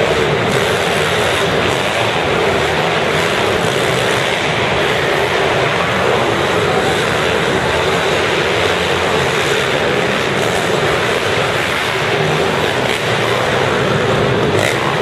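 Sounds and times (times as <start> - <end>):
pit bike engines revving: 0.0 - 15.0.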